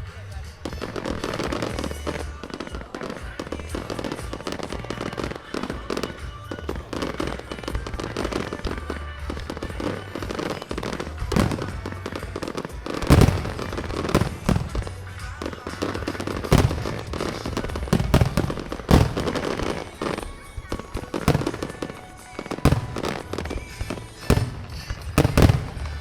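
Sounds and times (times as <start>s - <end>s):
fireworks bangs and crackles: 0.0s - 26.0s
music: 0.0s - 26.0s.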